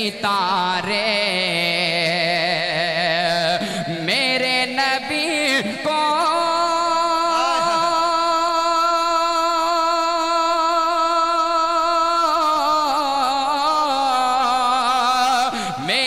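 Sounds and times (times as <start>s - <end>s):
man singing through a microphone: 0.0s - 16.0s.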